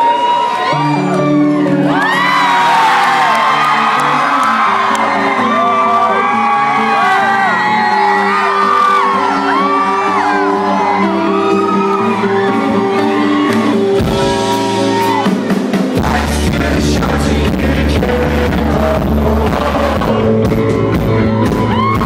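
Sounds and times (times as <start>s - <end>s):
crowd whooping and shouting: 0.0s - 16.4s, 18.5s - 22.0s
live rock band playing: 0.1s - 22.0s
drums: 4.3s - 22.0s.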